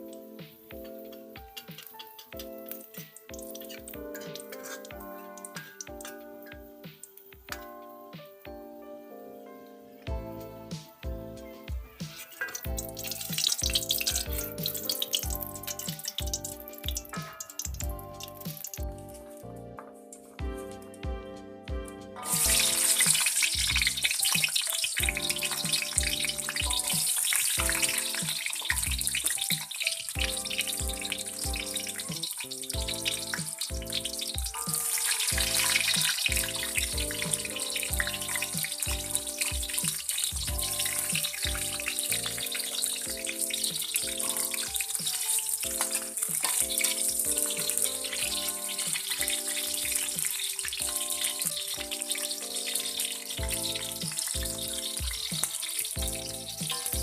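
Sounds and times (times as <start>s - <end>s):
food sizzling in hot oil: 0.0s - 9.4s, 10.0s - 20.2s, 22.2s - 57.0s
background music with a beat: 0.0s - 57.0s.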